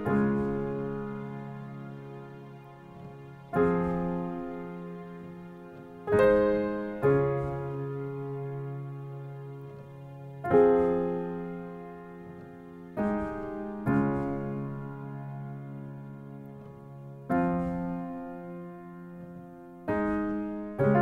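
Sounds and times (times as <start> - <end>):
soft piano chords: 0.0 - 21.0.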